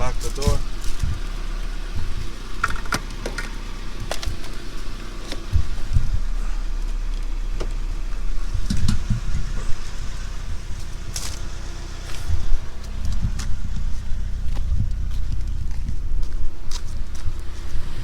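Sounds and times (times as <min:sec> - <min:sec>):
steady low rumble: 0:00.0 - 0:18.0
dull thumps: 0:01.9 - 0:17.5.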